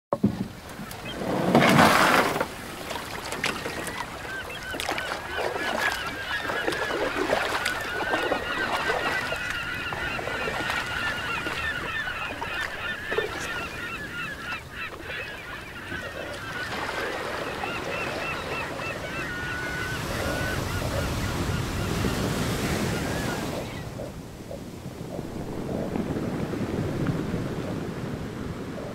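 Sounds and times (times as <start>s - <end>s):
surf washing: 0.2s - 28.9s
birds honking: 2.2s - 25.6s.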